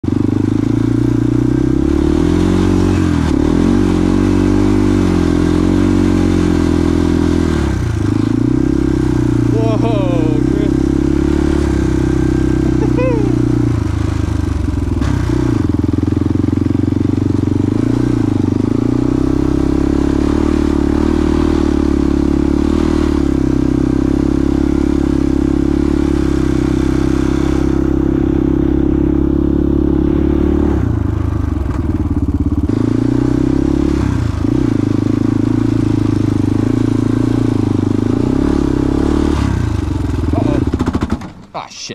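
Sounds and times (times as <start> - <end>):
quad bike engine running: 0.0 - 41.5.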